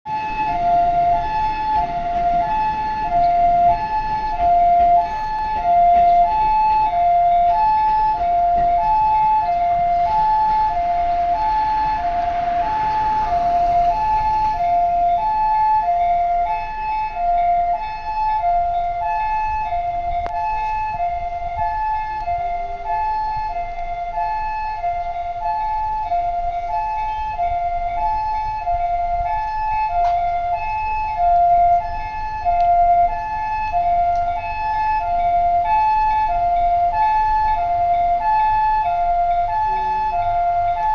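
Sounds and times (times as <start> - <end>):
two-tone ambulance siren: 0.0 - 40.9
rushing noise: 0.1 - 36.5.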